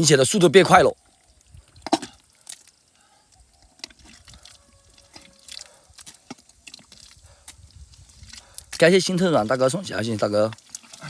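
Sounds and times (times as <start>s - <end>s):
water drips and small splashes: 0.0s - 11.0s.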